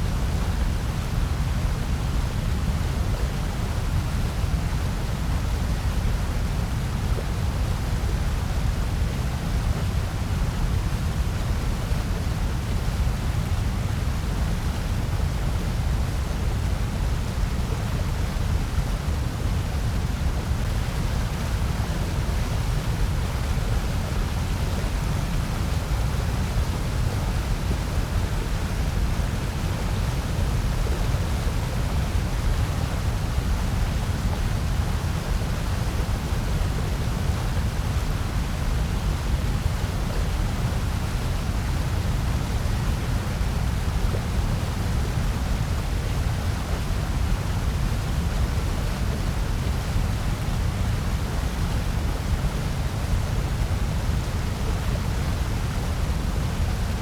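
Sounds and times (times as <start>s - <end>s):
bass-heavy white noise: 0.0s - 57.0s.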